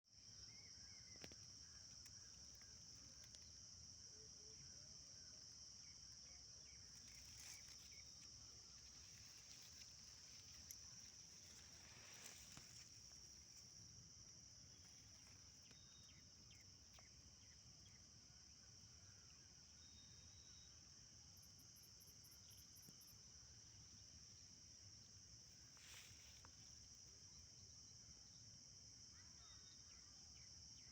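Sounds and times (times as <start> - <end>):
crickets chirping: 0.1 - 30.9.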